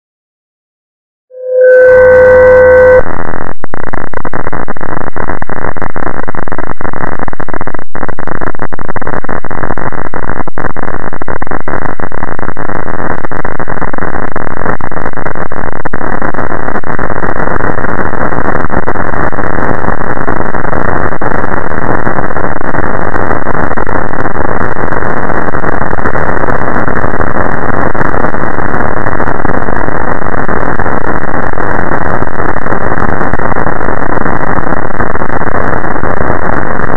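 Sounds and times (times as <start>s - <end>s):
harsh distorted noise: 1.4s - 36.9s.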